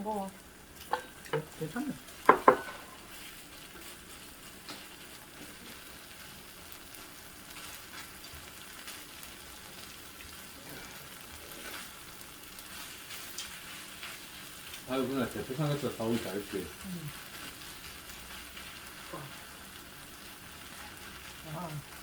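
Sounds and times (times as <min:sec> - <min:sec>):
stir-fry sizzling on griddle: 0:00.0 - 0:22.0.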